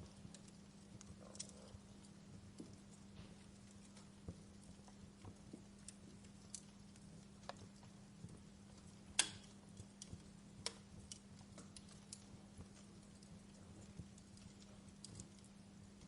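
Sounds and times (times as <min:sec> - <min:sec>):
faint low steady hum: 0:00.0 - 0:16.0
wood fire crackling: 0:00.0 - 0:16.0.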